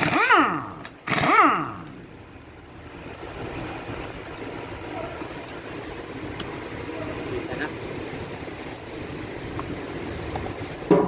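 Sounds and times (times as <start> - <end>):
rumbling background noise: 0.0 - 11.0.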